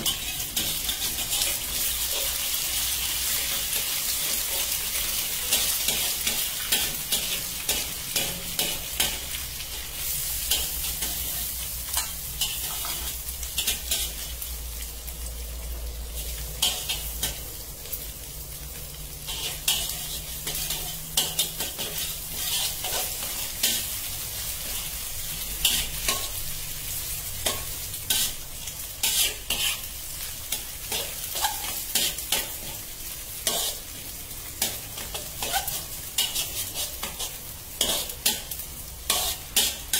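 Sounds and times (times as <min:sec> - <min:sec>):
spatula scraping a pan: 0:00.0 - 0:14.5, 0:19.2 - 0:39.9
eggs sizzling in a wok: 0:00.0 - 0:39.9.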